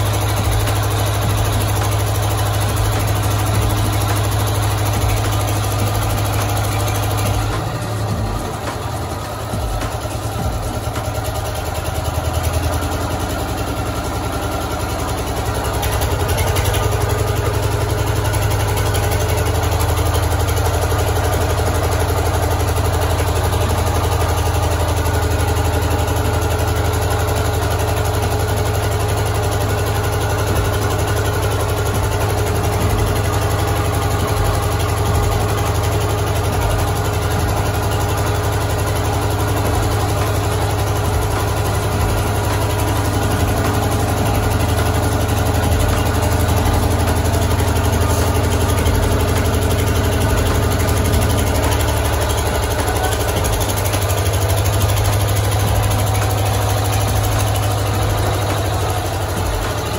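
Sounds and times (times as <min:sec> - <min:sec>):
water pump motor humming: 0:00.0 - 0:59.9.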